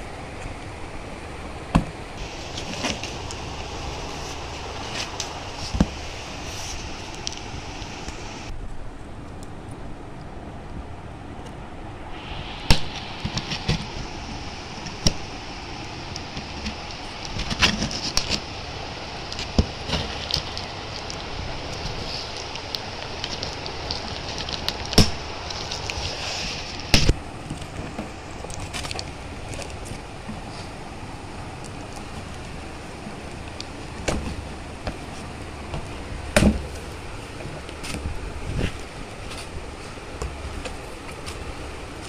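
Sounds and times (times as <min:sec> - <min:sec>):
background hum: 0:00.0 - 0:42.0.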